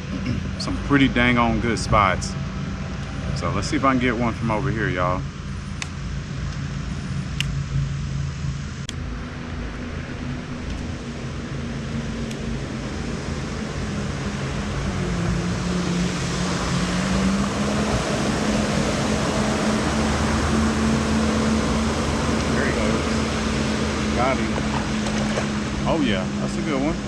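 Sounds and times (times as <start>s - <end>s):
jet ski engine: 0.0s - 27.0s.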